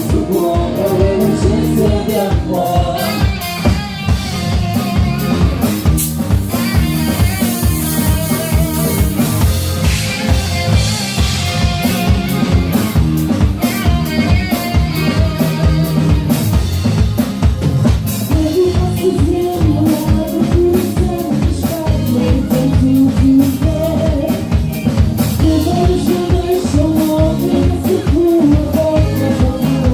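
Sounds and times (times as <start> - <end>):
bass notes: 0.0 - 29.9
drum kit beat with rimshots: 0.0 - 29.9.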